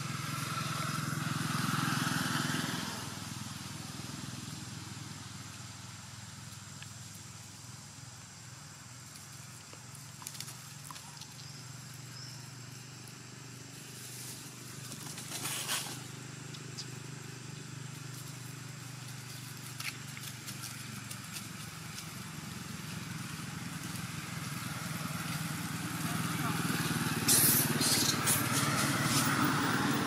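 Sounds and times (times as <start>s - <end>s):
distant engine hum: 0.0s - 30.0s.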